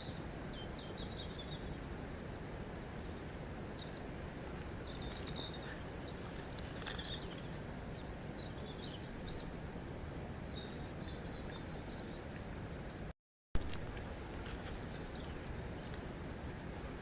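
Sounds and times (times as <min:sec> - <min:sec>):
small birds chirping: 0:00.0 - 0:13.1, 0:14.6 - 0:16.9.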